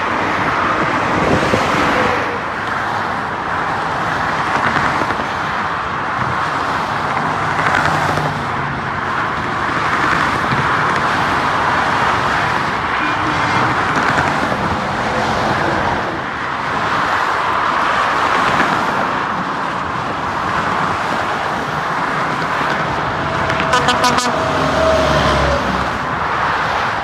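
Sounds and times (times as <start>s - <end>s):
freeway traffic roar: 0.0s - 27.0s.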